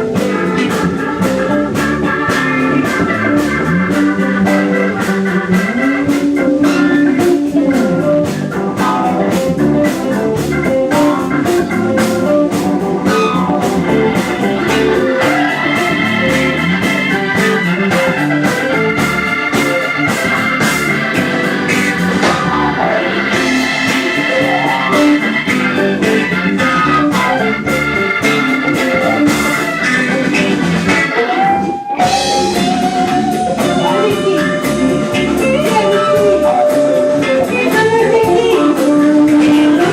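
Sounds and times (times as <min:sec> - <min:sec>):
drums steady beat: 0:00.0 - 0:39.9
electric guitar: 0:00.0 - 0:39.9
organ: 0:00.0 - 0:39.9.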